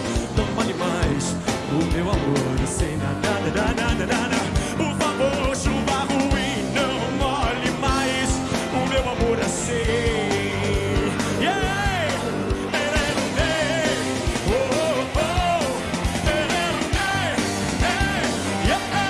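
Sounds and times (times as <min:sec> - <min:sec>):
person singing: 0:00.0 - 0:19.0
rock band playing live: 0:00.0 - 0:19.0.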